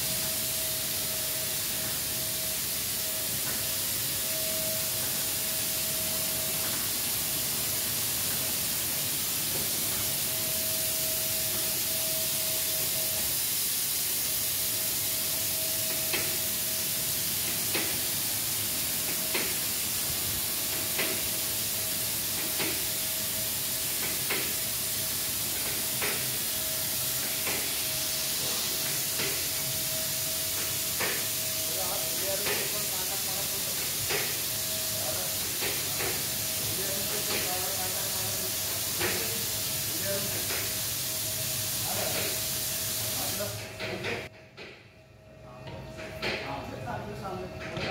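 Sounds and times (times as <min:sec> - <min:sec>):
car wash spraying water: 0:00.0 - 0:43.8
thin steady whine: 0:00.0 - 0:47.9.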